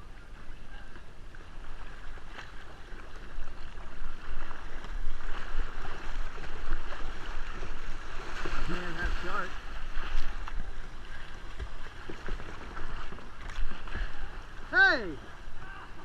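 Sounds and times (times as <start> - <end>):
water splashing around kayak: 0.0 - 16.0.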